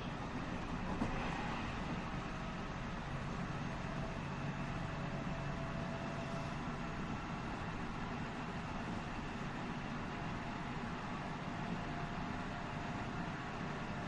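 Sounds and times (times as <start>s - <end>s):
train wheels rumbling on rail: 0.0s - 13.8s.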